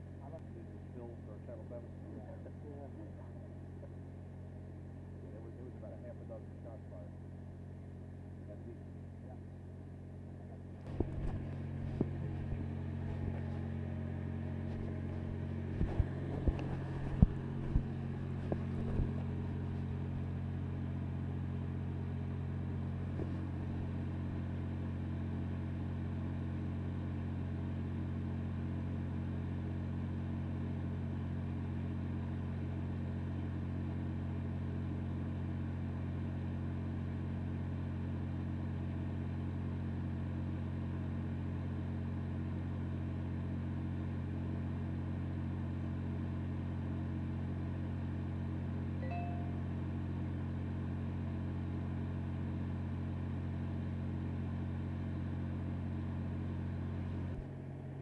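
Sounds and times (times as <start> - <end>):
engine hum: 0.0 - 58.0.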